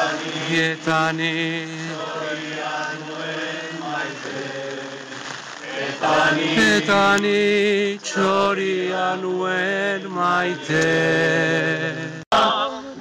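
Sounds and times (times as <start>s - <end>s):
person singing slowly: 0.0s - 13.0s.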